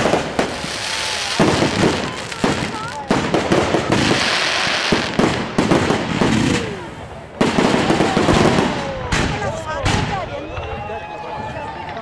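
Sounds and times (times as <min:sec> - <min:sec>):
fireworks crackle: 0:00.0 - 0:10.8
fireworks bangs: 0:00.0 - 0:10.9.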